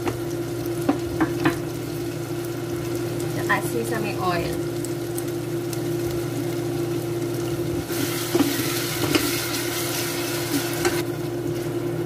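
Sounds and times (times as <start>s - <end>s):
onion and ginger sizzling in oil: 0.0s - 12.0s.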